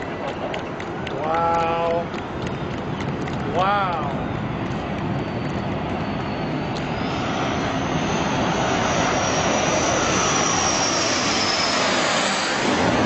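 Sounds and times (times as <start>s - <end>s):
high jet engine whine: 0.0s - 13.0s
jet engines roaring: 0.0s - 13.0s.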